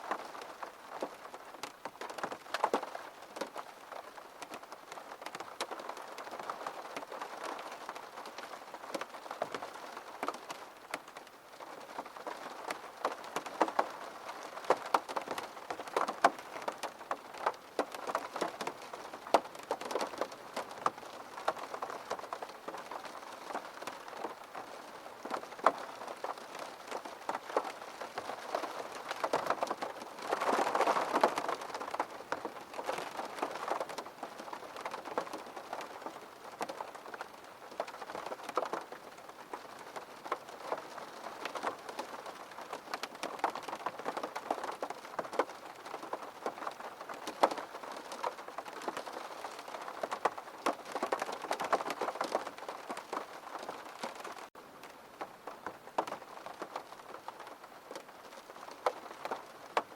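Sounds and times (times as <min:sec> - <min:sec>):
rain pattering on a window: 0:00.0 - 0:59.9.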